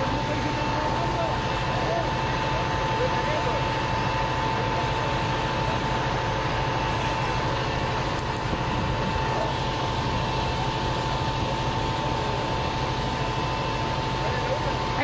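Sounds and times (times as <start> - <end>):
high engine whine: 0.0 - 15.0
truck engine rumbling: 0.0 - 15.0.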